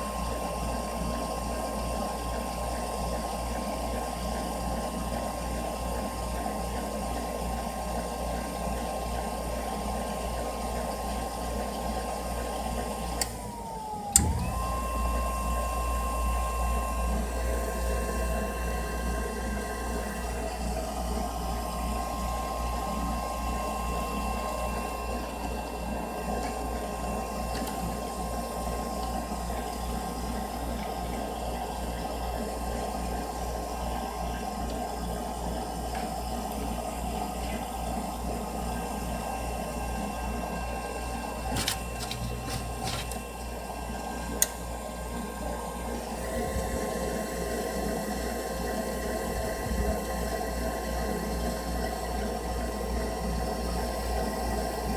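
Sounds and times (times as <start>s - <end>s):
furnace humming and whooshing: 0.0s - 54.9s.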